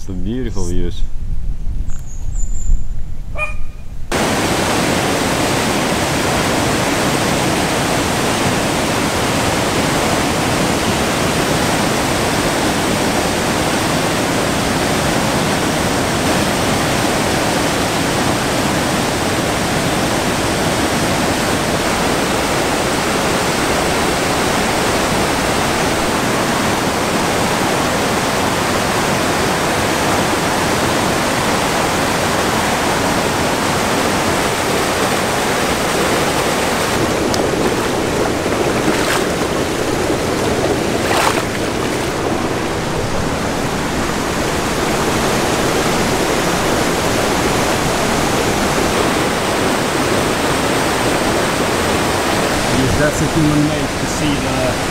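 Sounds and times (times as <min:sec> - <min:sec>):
waterfall rushing: 0:04.1 - 0:54.9.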